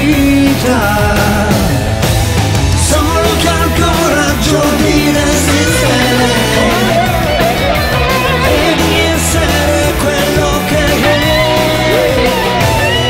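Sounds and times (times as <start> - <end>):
bass guitar: 0.0 - 13.0
drums: 0.0 - 13.0
electric guitar: 0.0 - 13.0.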